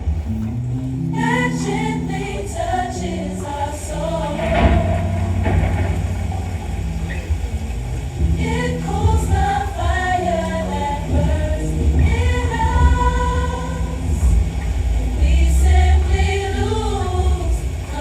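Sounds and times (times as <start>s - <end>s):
deep bass line: 0.0s - 18.0s
gospel choir singing: 0.9s - 18.0s.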